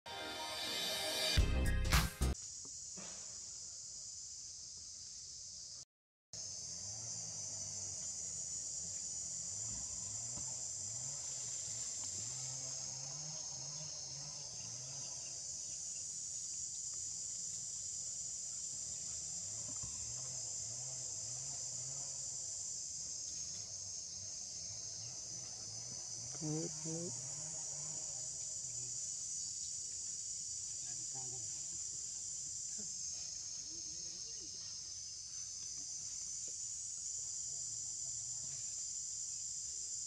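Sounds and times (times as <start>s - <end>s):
high-pitched insect chorus: 2.3s - 5.8s, 6.4s - 40.0s.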